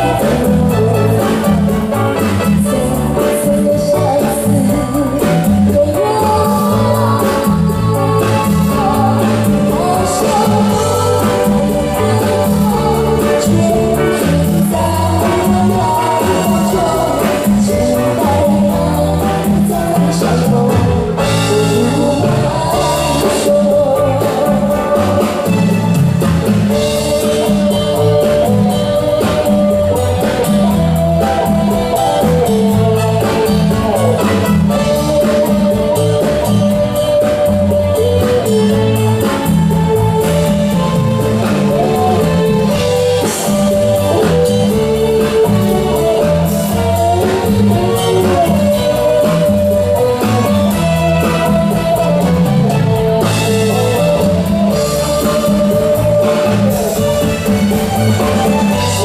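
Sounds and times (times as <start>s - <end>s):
woman singing into a microphone: 0.0s - 57.7s
bass guitar: 0.0s - 59.0s
drum kit: 0.0s - 59.0s
electric guitar: 0.0s - 59.0s
keyboard: 0.0s - 59.0s
live band playing: 0.0s - 59.0s.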